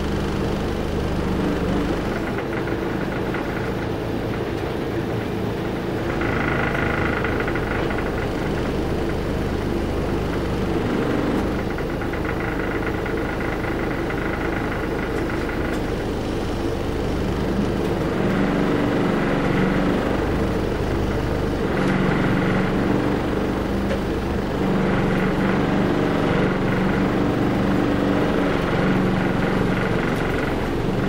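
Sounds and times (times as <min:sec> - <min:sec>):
bus diesel engine running: 0:00.0 - 0:31.0.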